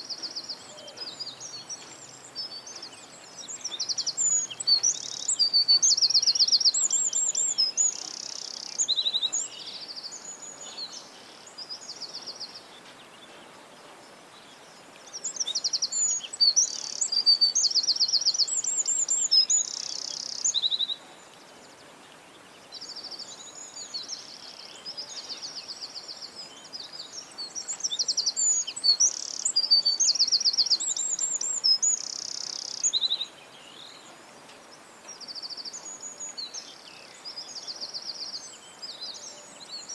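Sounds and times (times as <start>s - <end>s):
faint steady background hiss: 0.0s - 39.9s
songbird chirps and trills: 0.0s - 39.9s.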